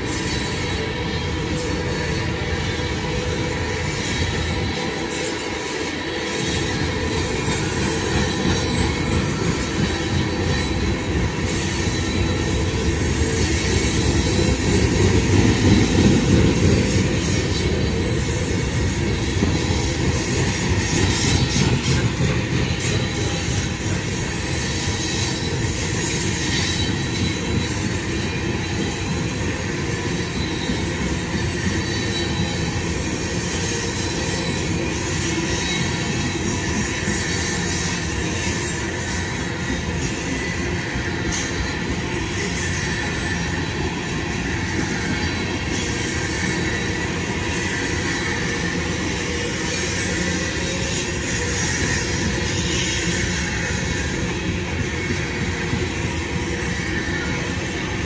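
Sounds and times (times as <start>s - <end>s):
steel wheels rumbling on rails: 0.0s - 58.0s.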